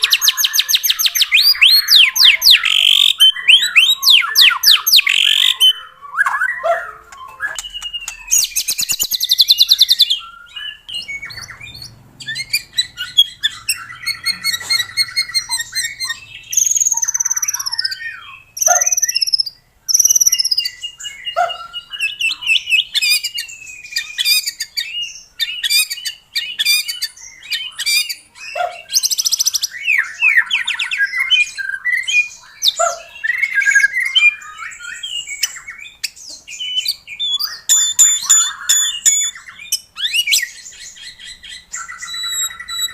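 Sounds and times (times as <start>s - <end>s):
bird singing varied song: 0.0s - 42.9s.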